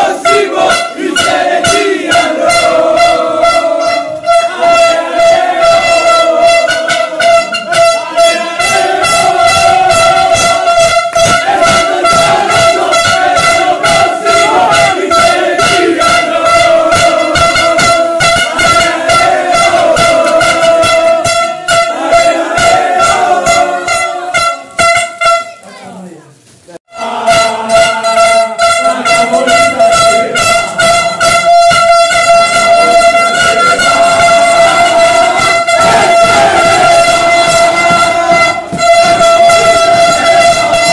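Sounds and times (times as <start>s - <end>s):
rhythmic clapping: 0.0s - 25.7s, 26.9s - 40.9s
plastic stadium horns blowing: 0.0s - 25.8s, 26.9s - 40.9s.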